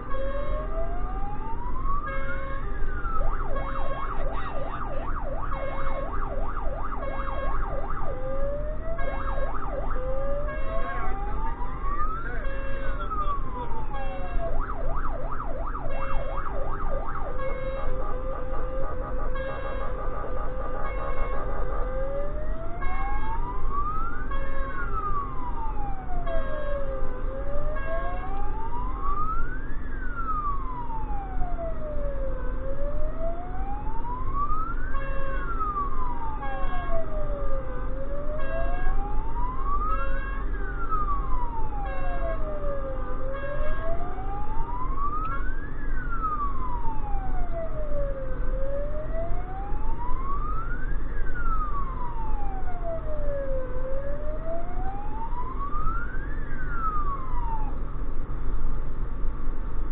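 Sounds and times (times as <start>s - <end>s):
fire engine wail siren: 0.0s - 59.9s
truck engine rumble: 0.0s - 59.9s.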